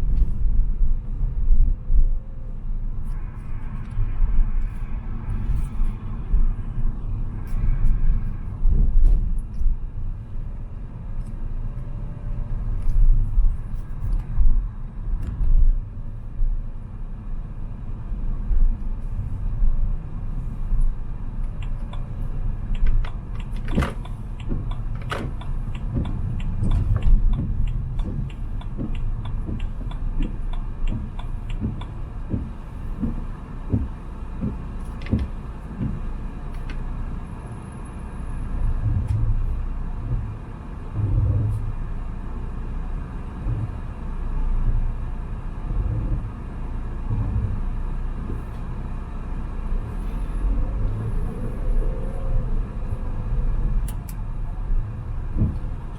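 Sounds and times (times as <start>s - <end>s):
car engine and tyre rumble: 0.0s - 55.9s.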